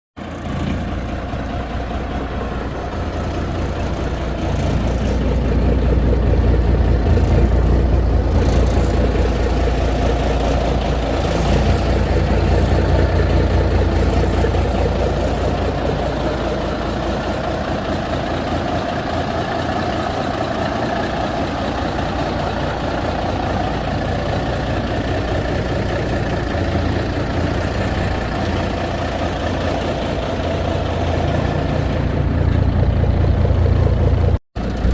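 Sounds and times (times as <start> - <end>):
truck engine rumbling: 0.2 - 34.9.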